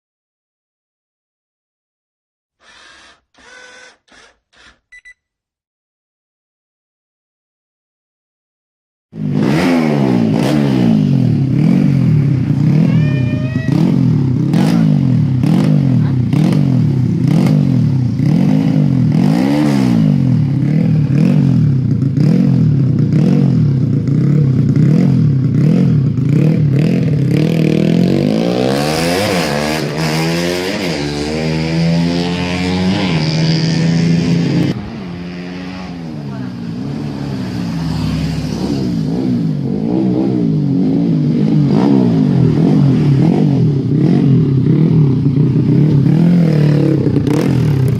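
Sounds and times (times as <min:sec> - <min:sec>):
motorcycle engine revving: 0:09.2 - 0:47.9.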